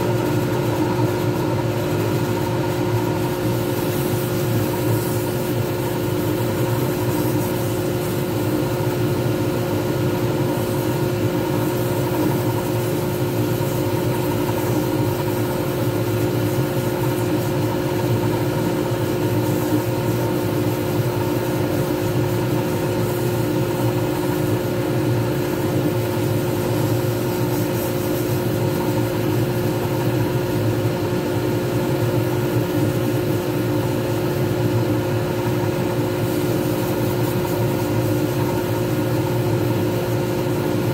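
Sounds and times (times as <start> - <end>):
sandpaper hissing on spinning wood: 0.0 - 40.9.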